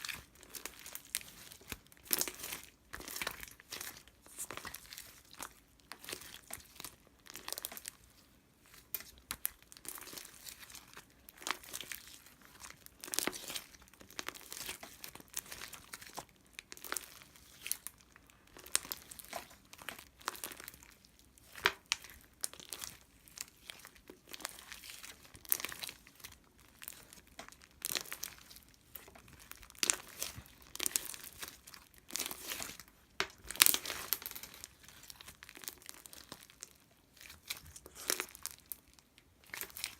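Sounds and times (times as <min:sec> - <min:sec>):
crinkling and crackling: 0:00.0 - 0:39.9.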